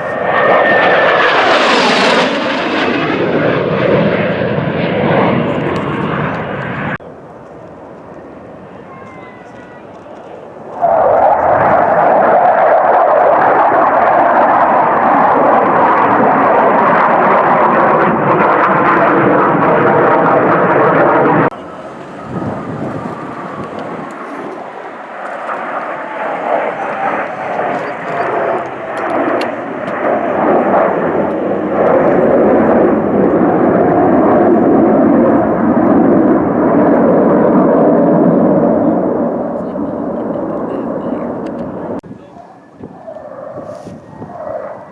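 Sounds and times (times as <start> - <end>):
jet aircraft flying past: 0.0 - 44.9.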